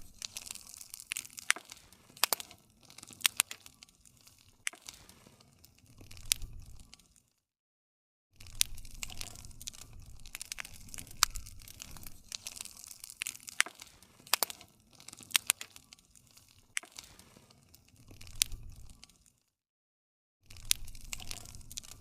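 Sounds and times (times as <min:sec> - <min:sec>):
low rumble of flames: 0:00.0 - 0:07.1, 0:08.4 - 0:19.2, 0:20.5 - 0:22.0
campfire crackling and popping: 0:00.0 - 0:07.3, 0:08.4 - 0:19.3, 0:20.5 - 0:22.0.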